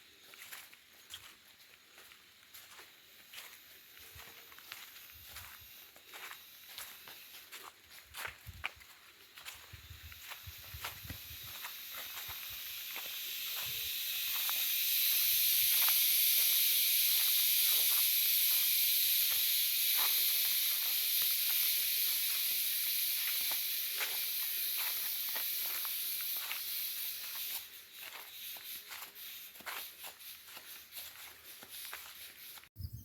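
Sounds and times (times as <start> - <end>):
insects high-pitched hiss: 0.0 - 33.0.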